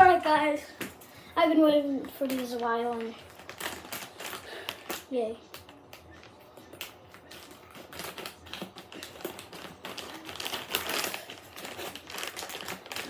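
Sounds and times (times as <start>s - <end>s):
plastic packaging crinkling: 2.2s - 13.0s.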